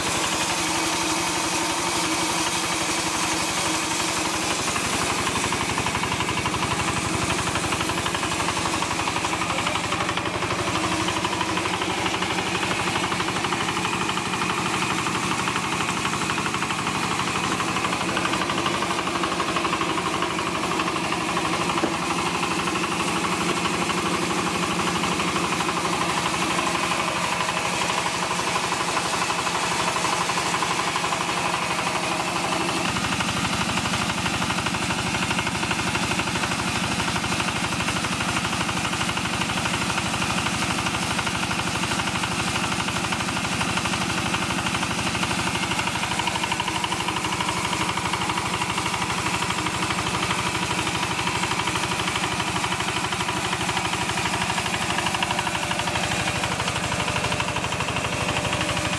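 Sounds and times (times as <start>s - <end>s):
crusher grinding maize: 0.0s - 58.9s
diesel engine chugging: 0.0s - 58.9s.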